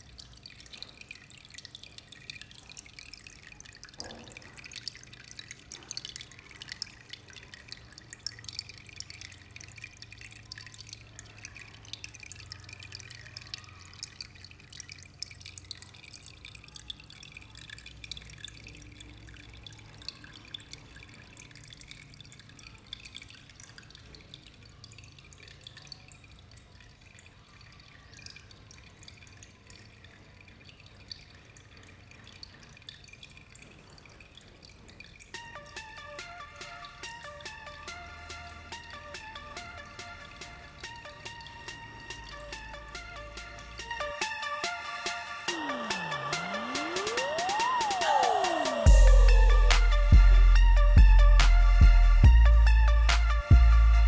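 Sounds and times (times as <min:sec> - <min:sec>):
water dripping and trickling: 0:00.0 - 0:54.0.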